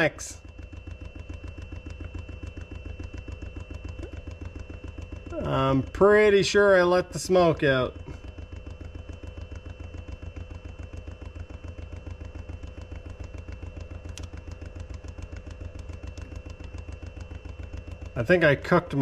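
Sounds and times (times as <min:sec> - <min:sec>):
faint steady whine: 0:00.0 - 0:19.0
machine running with rapid pulse: 0:00.0 - 0:19.0.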